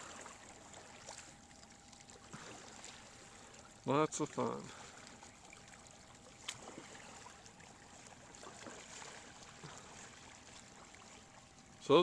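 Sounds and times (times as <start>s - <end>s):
paddle water trickling and lapping: 0.0s - 12.0s.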